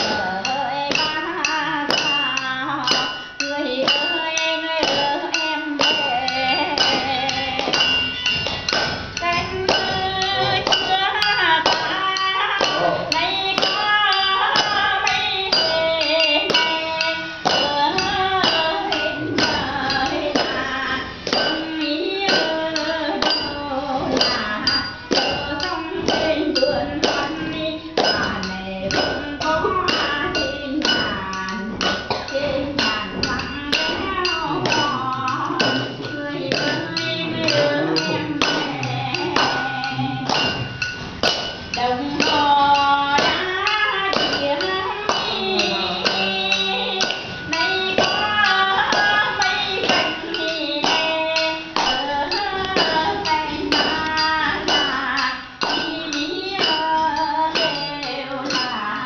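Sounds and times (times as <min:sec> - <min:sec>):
steady tapping beat: 0:00.0 - 0:59.0
person singing folk melody: 0:09.2 - 0:40.7, 0:41.7 - 0:59.0.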